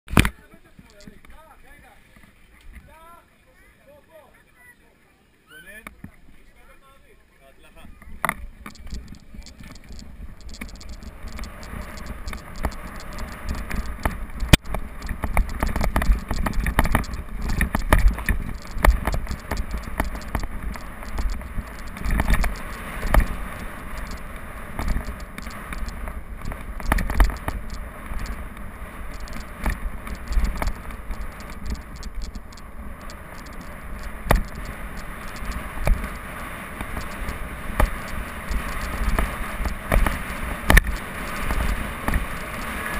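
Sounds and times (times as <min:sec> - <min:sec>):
bike clicking and rattling: 0:00.1 - 0:01.5, 0:08.0 - 0:42.9
tyres rumbling on dirt: 0:07.9 - 0:42.9.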